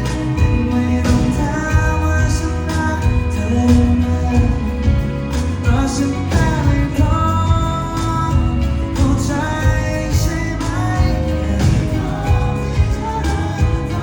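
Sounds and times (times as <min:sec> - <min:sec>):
bass: 0:00.0 - 0:14.0
drums: 0:00.0 - 0:14.0
electric guitars: 0:00.0 - 0:14.0
person singing: 0:00.0 - 0:14.0.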